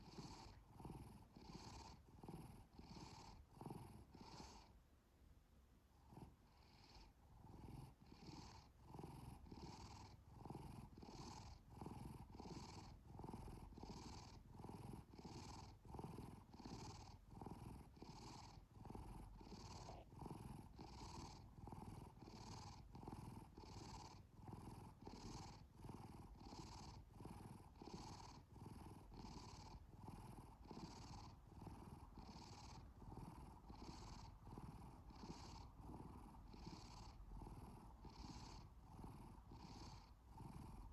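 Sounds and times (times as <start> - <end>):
cat purring: 0.0 - 4.9, 5.9 - 40.9.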